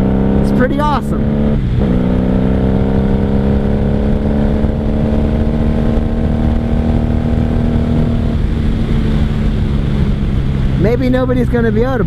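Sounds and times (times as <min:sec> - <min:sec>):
motorcycle engine running: 0:00.0 - 0:12.0
wind rush: 0:00.0 - 0:12.0.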